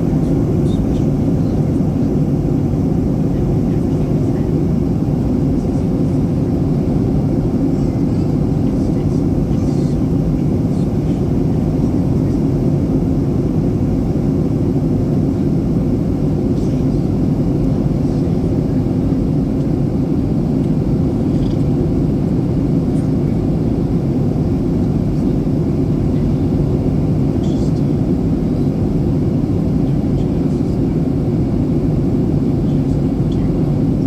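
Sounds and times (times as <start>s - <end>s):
airplane cabin engine rumble: 0.0s - 34.0s.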